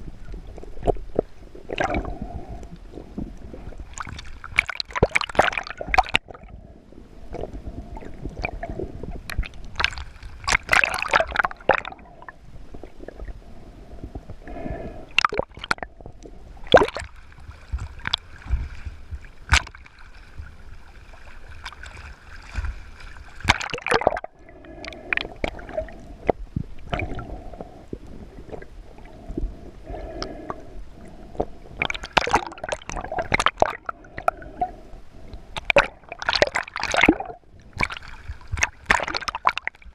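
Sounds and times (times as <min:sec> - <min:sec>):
bubbling: 0:00.0 - 0:06.6, 0:07.2 - 0:39.9
water gurgling and sloshing: 0:00.0 - 0:39.9.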